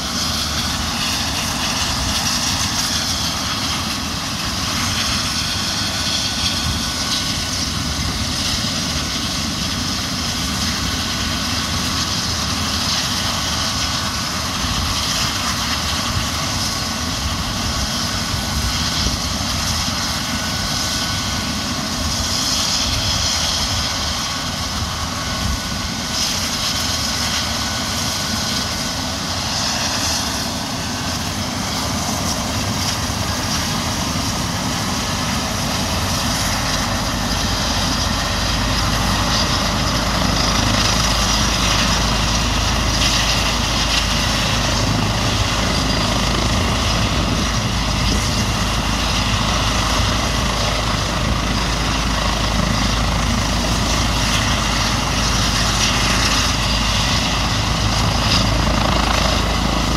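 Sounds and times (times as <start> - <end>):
helicopter turbine engines running: 0.0 - 59.9.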